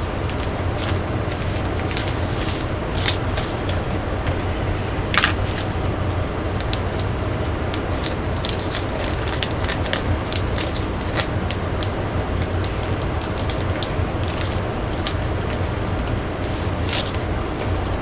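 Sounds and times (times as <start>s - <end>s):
steady low hum: 0.0s - 18.0s
packaging clicks and crinkles: 0.2s - 5.8s, 6.6s - 18.0s.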